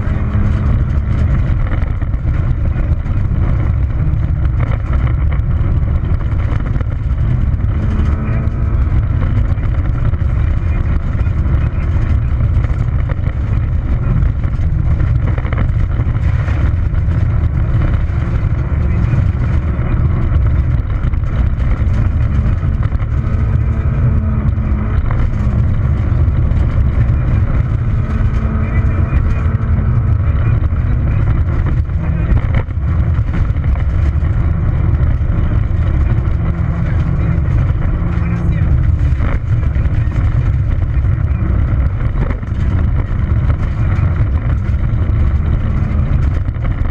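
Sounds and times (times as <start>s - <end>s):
rally car engine and tyres on gravel: 0.0s - 46.9s.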